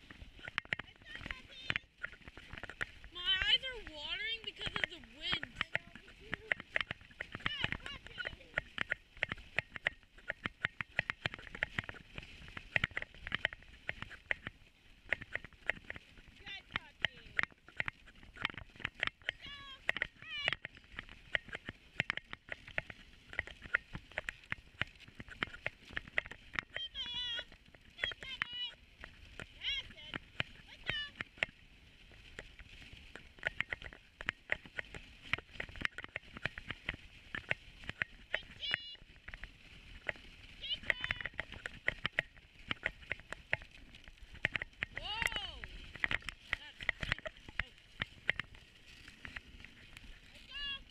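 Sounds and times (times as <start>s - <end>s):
dog sled clattering: 0.0s - 50.9s.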